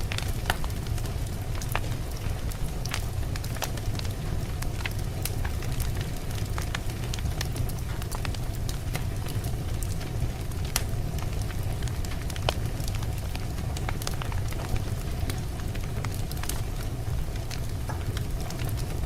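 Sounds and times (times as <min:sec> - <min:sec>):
campfire logs crackling and popping: 0:00.0 - 0:19.0.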